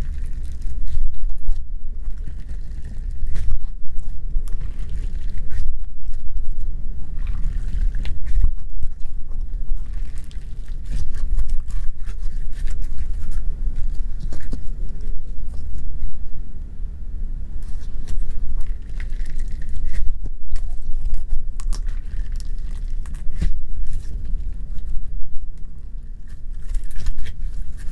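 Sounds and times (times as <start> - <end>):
slime squished by hand: 0.0 - 15.8, 17.6 - 27.9
low rumble: 0.0 - 27.9.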